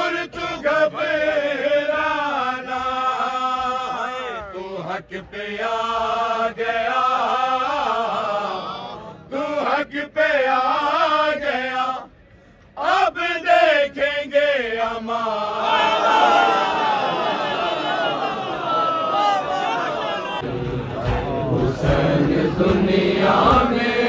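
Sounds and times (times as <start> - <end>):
men chanting devotional poem: 0.0 - 24.0.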